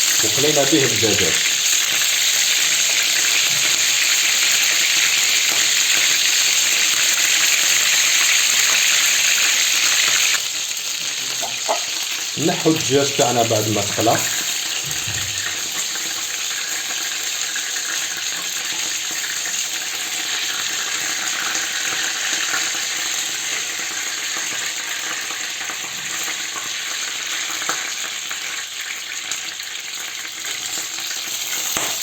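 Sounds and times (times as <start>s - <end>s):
chicken sizzling in frying pan: 0.0s - 32.0s.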